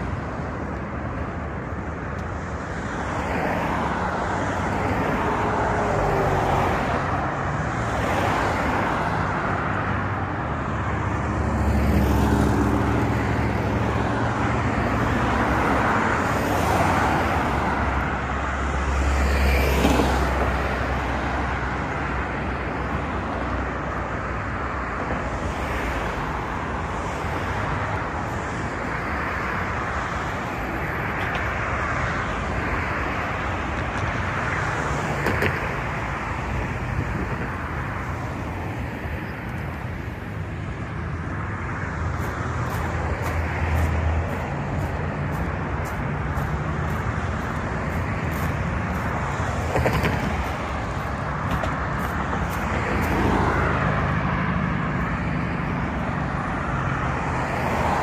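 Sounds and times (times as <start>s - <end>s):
cars passing: 0.0s - 58.0s.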